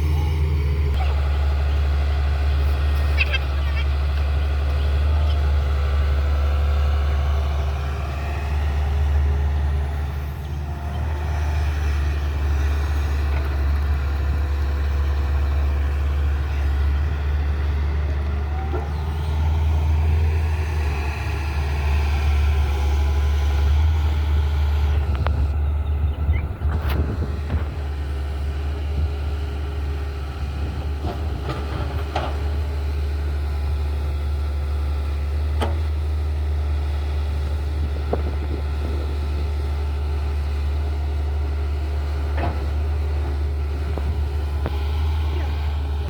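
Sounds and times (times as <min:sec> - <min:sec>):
excavator diesel engine drone: 0:00.0 - 0:46.0.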